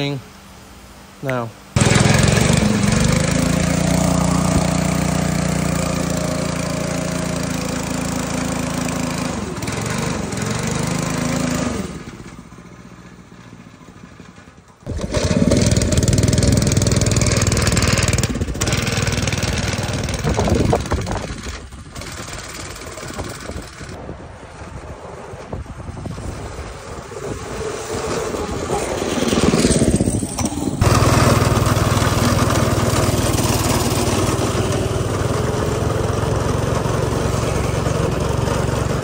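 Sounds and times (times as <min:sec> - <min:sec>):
small go-kart engine running: 0:01.8 - 0:24.0, 0:24.6 - 0:39.0.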